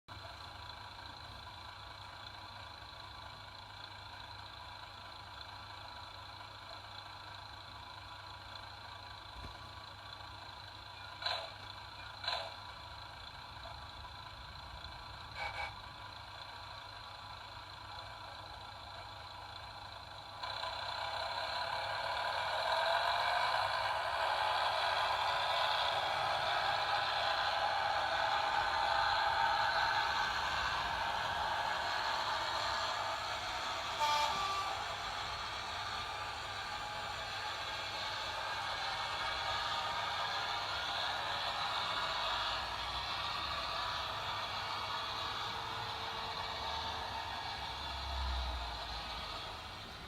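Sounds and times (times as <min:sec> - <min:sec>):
diesel engine sound from small speaker: 0:00.1 - 0:50.0.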